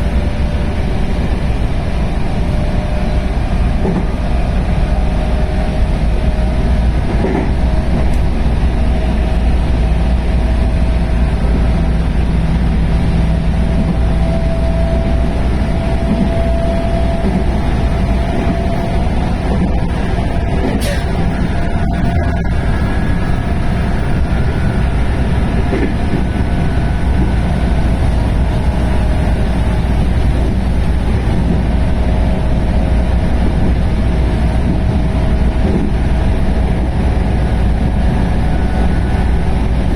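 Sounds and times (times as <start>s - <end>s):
faint traction motor whine: 0.0s - 39.9s
train wheels rumbling on rail: 0.0s - 39.9s.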